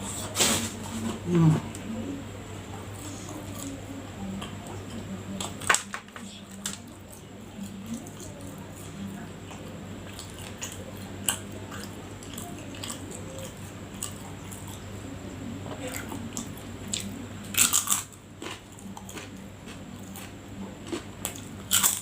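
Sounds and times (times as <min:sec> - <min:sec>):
chewing and crunching: 0:02.7 - 0:22.0.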